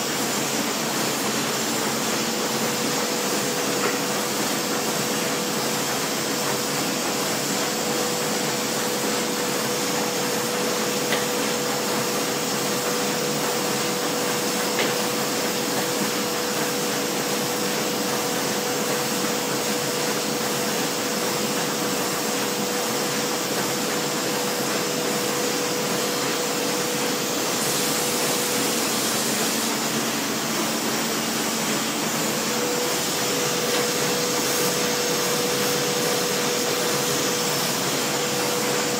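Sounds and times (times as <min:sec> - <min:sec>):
laminating machine whirring: 0:00.0 - 0:38.9.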